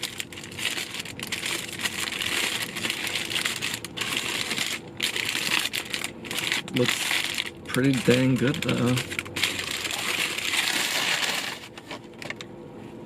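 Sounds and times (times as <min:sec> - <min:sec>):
sandwich wrapper crinkling: 0:00.0 - 0:12.3.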